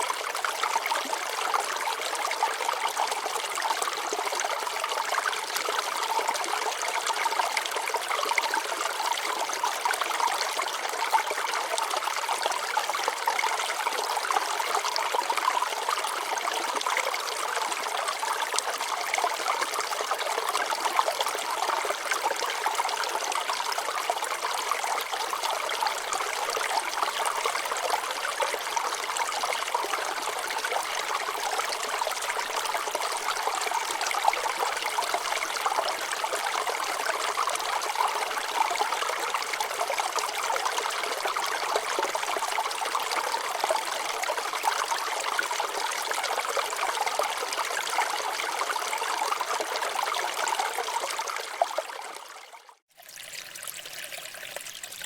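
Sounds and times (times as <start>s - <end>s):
stream water babbling over rocks: 0.0s - 55.0s.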